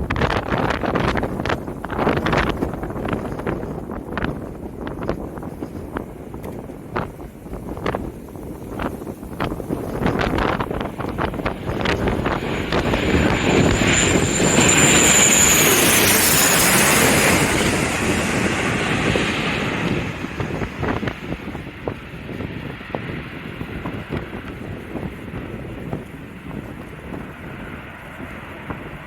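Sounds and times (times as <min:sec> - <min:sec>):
airliner passing overhead: 0:00.0 - 0:29.0
wind buffeting microphone: 0:00.0 - 0:29.0.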